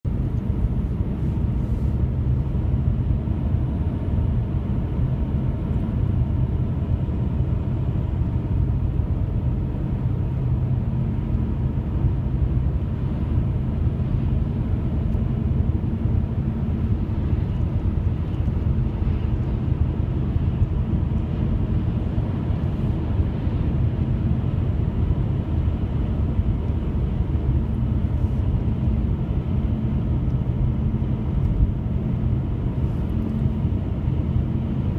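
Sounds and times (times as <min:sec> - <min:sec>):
low droning rumble: 0:00.1 - 0:34.9.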